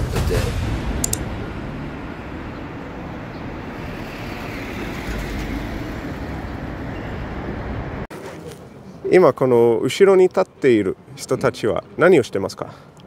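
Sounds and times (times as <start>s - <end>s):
street background hiss and rumble: 0.0s - 13.0s.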